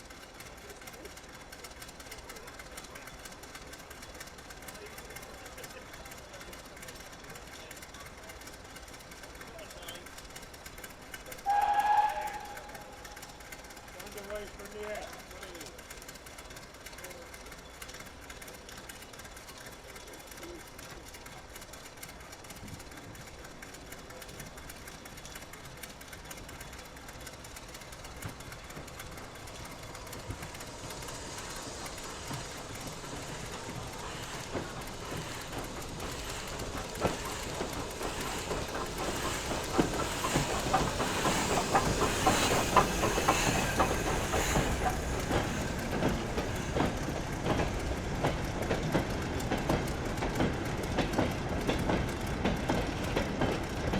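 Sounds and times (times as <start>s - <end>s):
train approaching: 0.0s - 53.9s
wheels clicking over rail joints: 0.0s - 53.9s.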